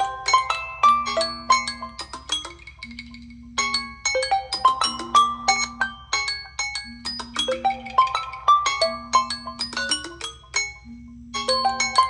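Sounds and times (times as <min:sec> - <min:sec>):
phone ringtone melody: 0:00.0 - 0:12.0.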